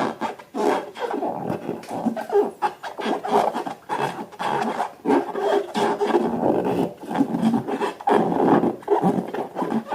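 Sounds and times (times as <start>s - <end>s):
rubber balloons squeaking: 0.0s - 9.9s.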